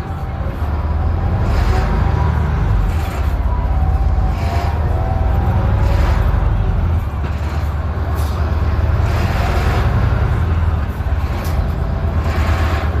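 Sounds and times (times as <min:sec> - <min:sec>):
road noise: 0:00.0 - 0:13.0
vehicle engine deep rumble: 0:00.0 - 0:13.0.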